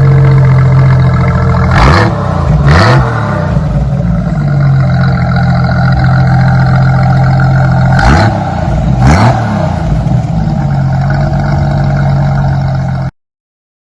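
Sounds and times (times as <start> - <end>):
car engine idling and revving: 0.0 - 13.1.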